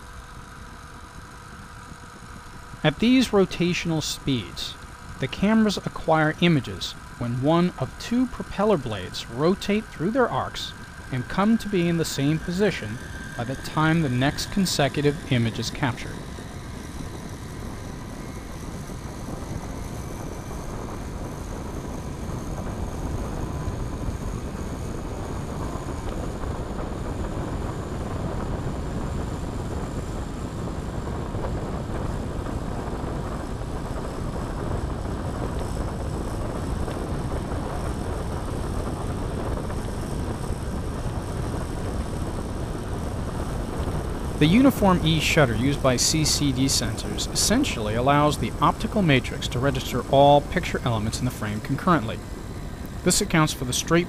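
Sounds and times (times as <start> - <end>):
model airplane engine buzzing: 0.0 - 54.0.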